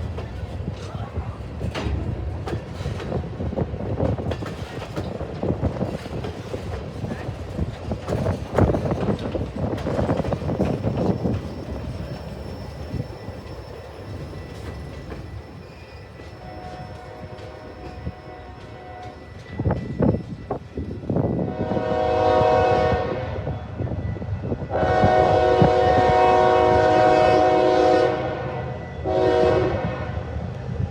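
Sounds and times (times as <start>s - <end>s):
train wheels clacking over rails: 0.0s - 27.9s
train rumble: 0.0s - 30.9s.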